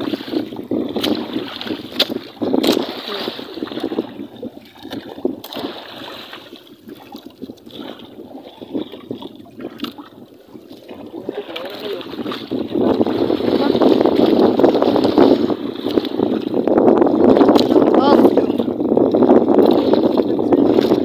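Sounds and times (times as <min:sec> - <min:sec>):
water splashing against boat: 0:00.0 - 0:21.0.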